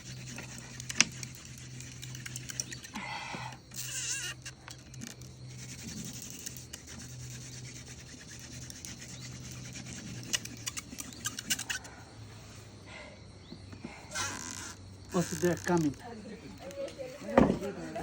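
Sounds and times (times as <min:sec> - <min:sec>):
wooden spindle rubbing on board: 0:00.0 - 0:11.8, 0:13.8 - 0:18.0.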